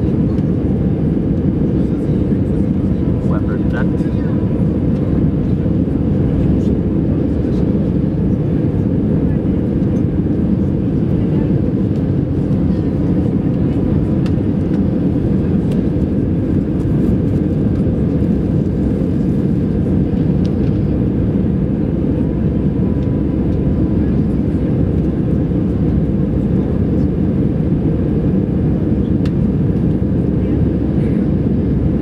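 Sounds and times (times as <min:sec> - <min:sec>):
jet engines roaring in cabin: 0:00.0 - 0:32.0.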